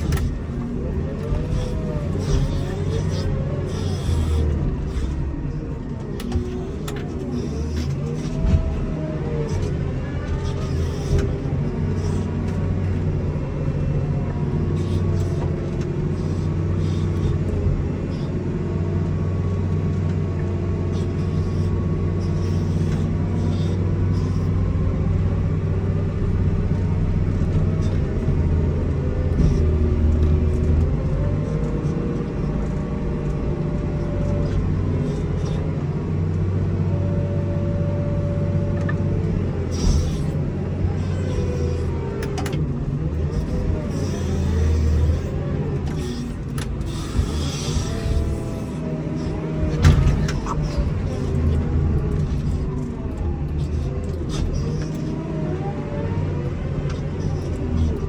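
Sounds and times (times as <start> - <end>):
wheel loader diesel engine: 0.0 - 58.0.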